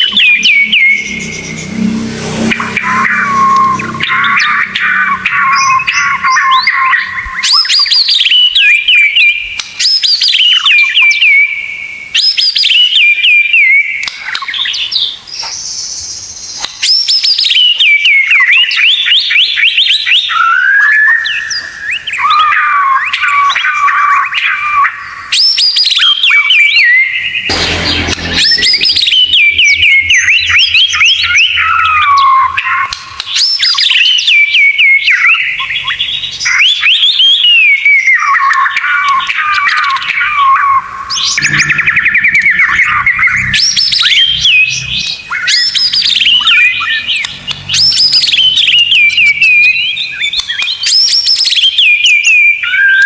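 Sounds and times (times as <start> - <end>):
bird whistled song and trills: 0.0 - 1.8, 2.5 - 27.5, 29.0 - 53.0.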